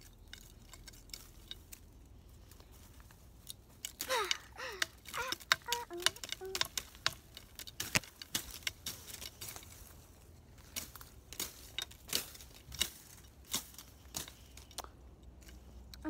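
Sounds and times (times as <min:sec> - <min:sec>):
twigs snapping and crackling: 0:00.0 - 0:16.0.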